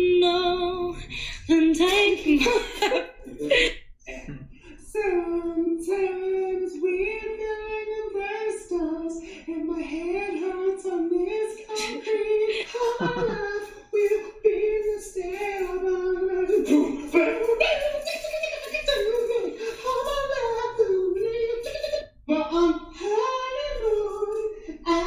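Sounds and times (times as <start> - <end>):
woman singing slow melody: 0.0 - 3.0, 4.8 - 25.0.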